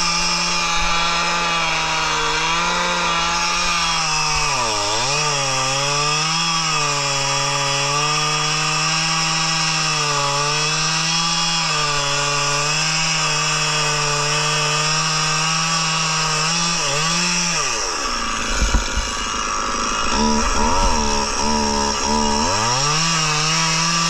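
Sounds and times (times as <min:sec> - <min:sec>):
chainsaw cutting log: 0:00.0 - 0:24.0.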